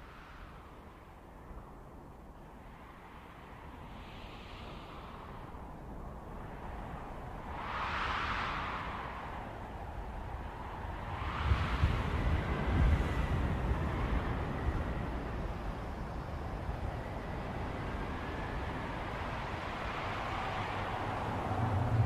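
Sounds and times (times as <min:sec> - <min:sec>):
low rumbling wind-like noise: 0:00.0 - 0:22.0.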